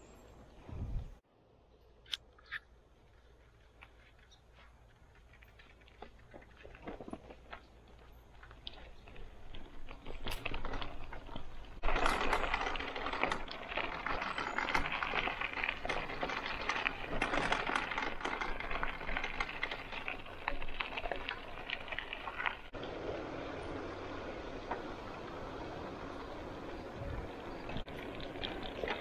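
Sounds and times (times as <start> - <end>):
tyres ticking on dirt track: 2.0 - 29.0
bicycle tyres crunching on gravel: 3.0 - 29.0.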